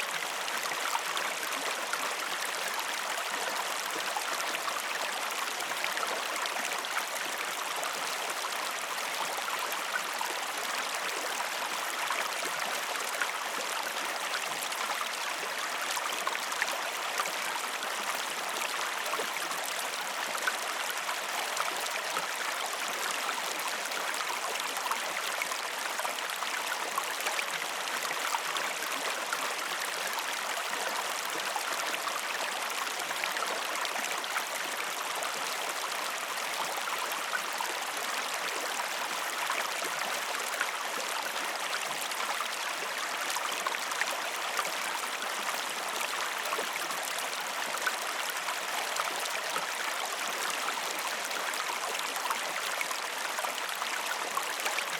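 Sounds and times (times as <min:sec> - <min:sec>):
river water babbling: 0:00.0 - 0:54.9.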